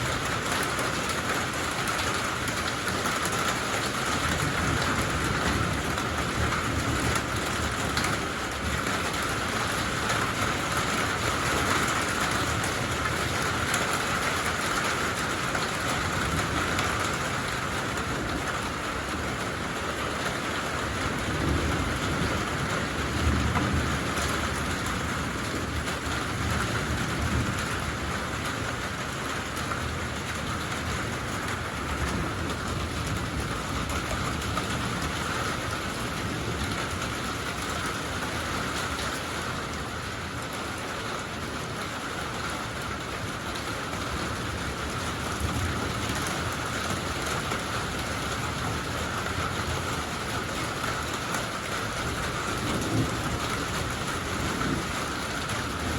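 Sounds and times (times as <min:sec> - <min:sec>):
thunder rumbles: 0:00.0 - 0:40.2, 0:42.4 - 0:55.9
steady rain: 0:00.0 - 0:55.9.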